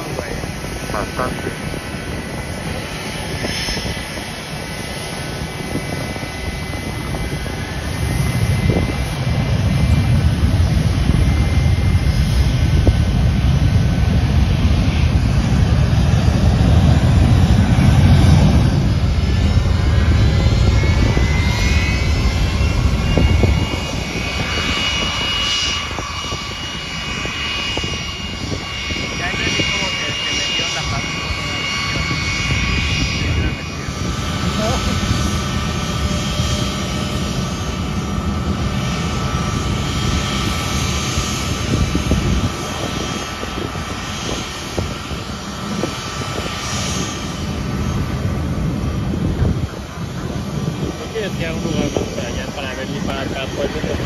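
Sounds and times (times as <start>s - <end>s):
deep jet engine roar: 0.0s - 54.0s
high whine of jet engines: 0.0s - 54.0s.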